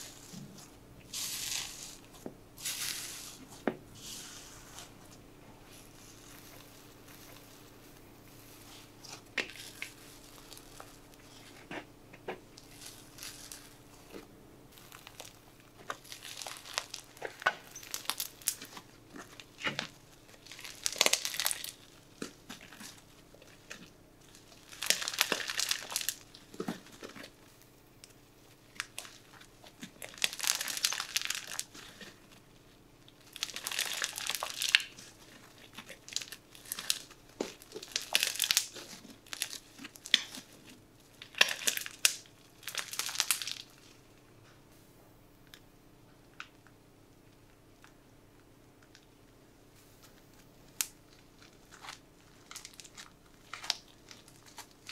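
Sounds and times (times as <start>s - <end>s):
slime crackling and tearing: 0.0s - 5.0s, 5.7s - 44.1s, 50.8s - 54.9s.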